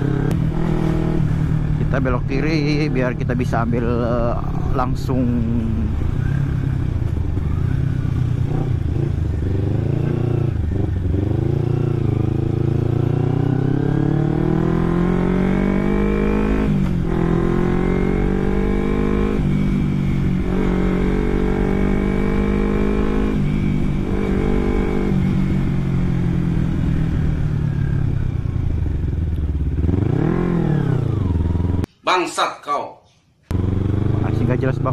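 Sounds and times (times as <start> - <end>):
motorcycle engine accelerating: 0.0 - 31.9, 33.5 - 34.9.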